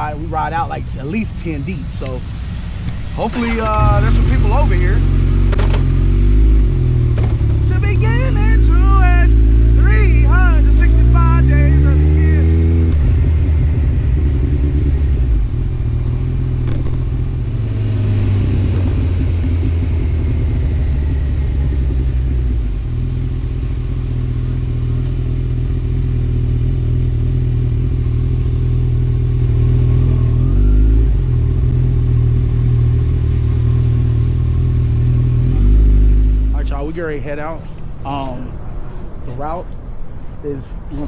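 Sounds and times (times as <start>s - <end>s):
motorcycle engines rumbling: 0.0s - 41.0s.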